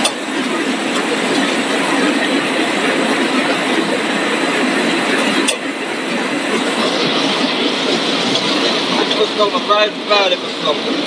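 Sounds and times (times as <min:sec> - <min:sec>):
production line machinery running: 0:00.0 - 0:11.0.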